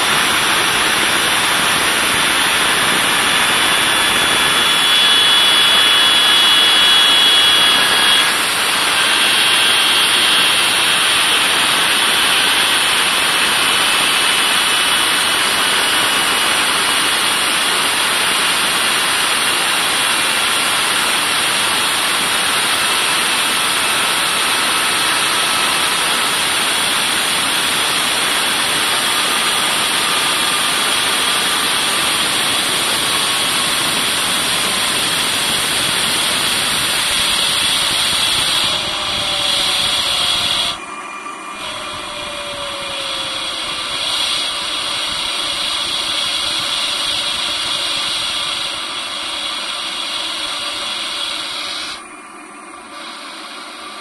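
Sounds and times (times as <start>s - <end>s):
jet engine rushing: 0.0s - 54.0s
thin engine whine: 0.0s - 54.0s.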